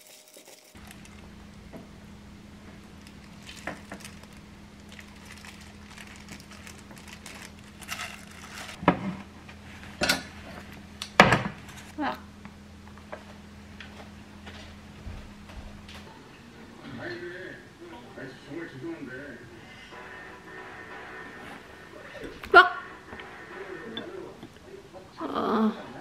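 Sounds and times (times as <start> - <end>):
steady low hum: 0.8 - 26.0.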